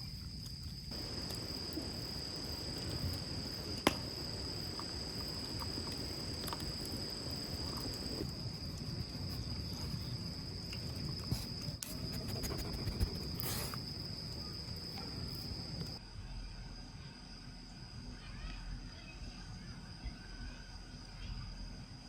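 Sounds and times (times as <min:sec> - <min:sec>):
high insect trill: 0:00.0 - 0:22.0.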